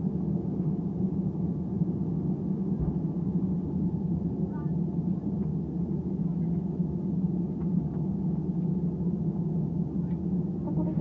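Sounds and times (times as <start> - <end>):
aircraft engine noise: 0.0 - 11.0.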